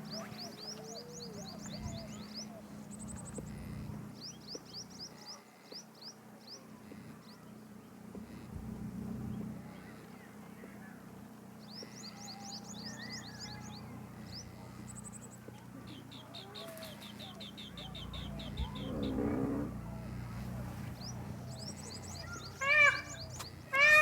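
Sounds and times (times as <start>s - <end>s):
small birds chirping: 0.0s - 8.0s, 11.6s - 24.0s.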